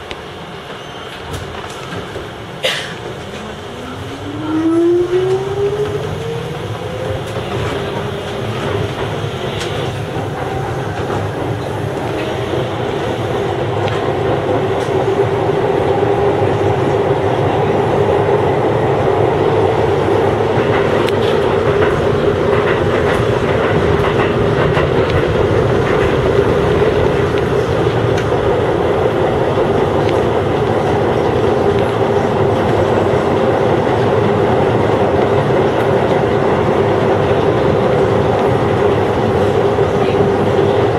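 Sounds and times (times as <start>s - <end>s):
train running noise: 0.0s - 40.9s.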